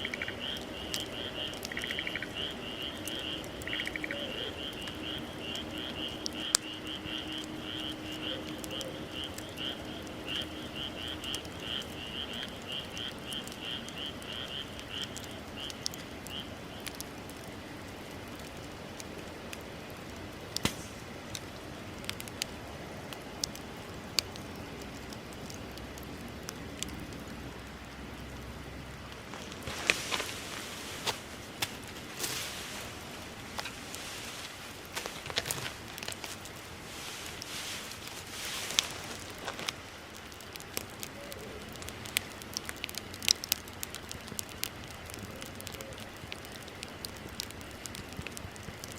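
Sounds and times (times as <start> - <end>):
bonfire crackling and popping: 0.0 - 48.9.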